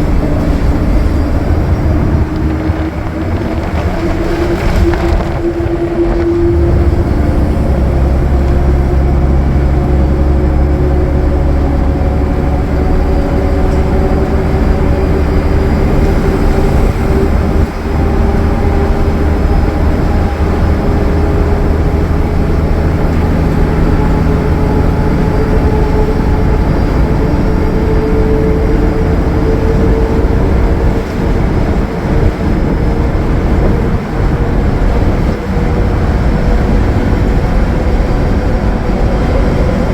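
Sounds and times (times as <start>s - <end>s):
bus diesel engine drone: 0.0s - 39.9s
engine whine rising in pitch: 0.0s - 39.9s.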